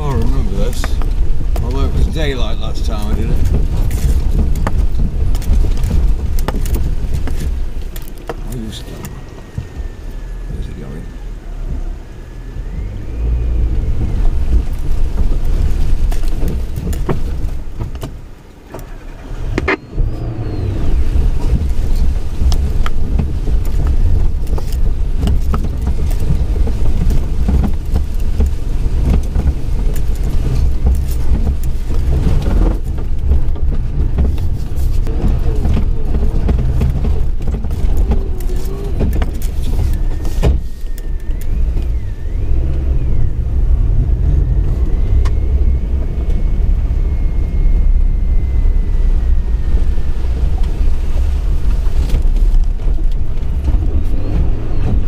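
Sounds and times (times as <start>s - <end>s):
vehicle knocks and rattles: 0.0s - 10.0s, 13.6s - 20.2s, 20.9s - 48.6s, 49.5s - 55.0s
engine and road rumble: 0.0s - 55.0s.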